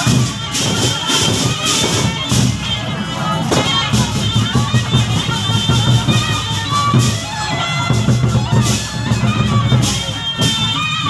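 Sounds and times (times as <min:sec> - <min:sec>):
barrel drums beating: 0:00.0 - 0:11.0
clashing cymbals: 0:00.0 - 0:11.0.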